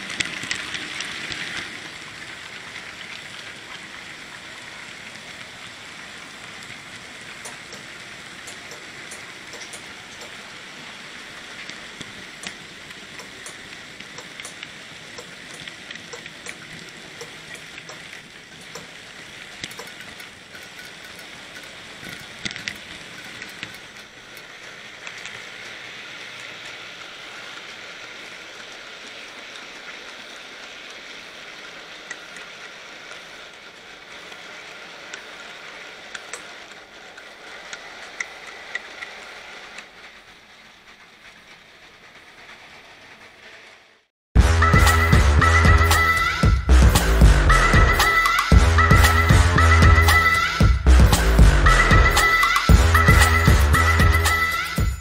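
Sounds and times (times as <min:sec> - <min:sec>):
model train wheels and motor hiss: 0:00.0 - 0:44.1, 0:44.8 - 0:55.0.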